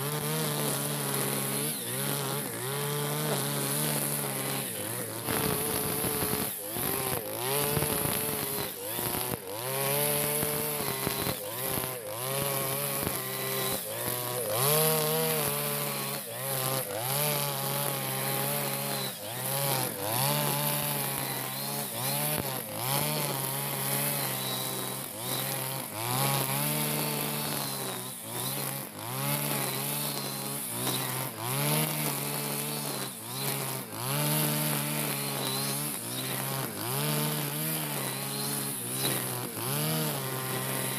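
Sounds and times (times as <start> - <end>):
brush cutter engine at high revs: 0.0 - 40.9.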